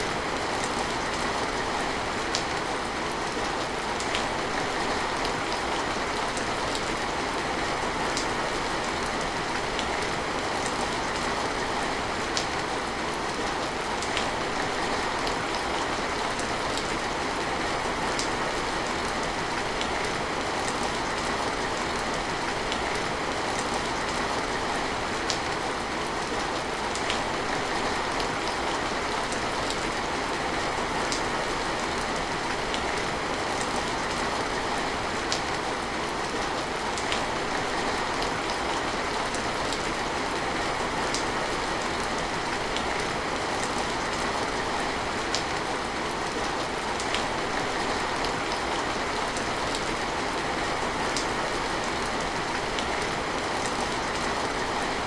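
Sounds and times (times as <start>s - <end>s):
steady rain: 0.0s - 55.0s
raindrops ticking nearby: 8.1s - 54.8s.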